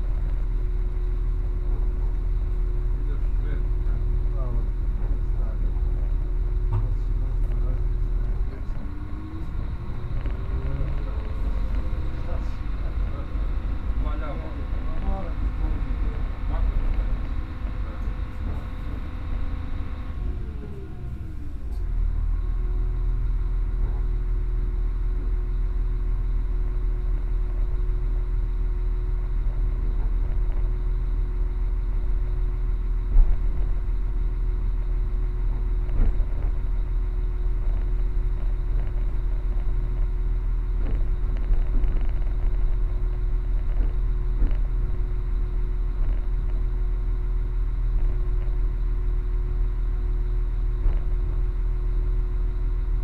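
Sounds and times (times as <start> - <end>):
train rumbling: 0.0 - 24.4, 29.2 - 51.8
constant hum: 0.0 - 53.0.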